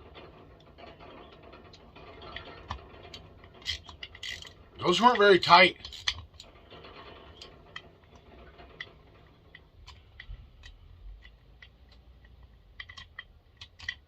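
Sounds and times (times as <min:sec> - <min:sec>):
small metal parts clicking: 0:00.0 - 0:14.0.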